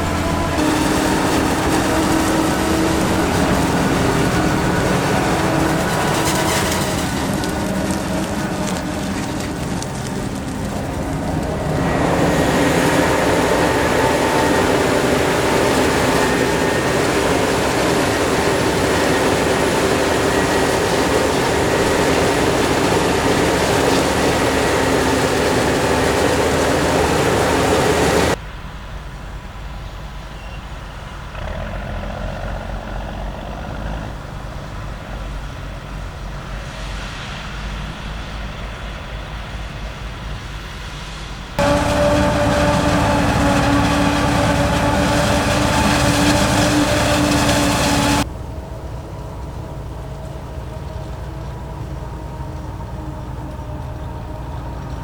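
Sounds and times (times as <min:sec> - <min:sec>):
farm machinery engines running: 0:00.0 - 0:28.4, 0:30.4 - 0:55.0.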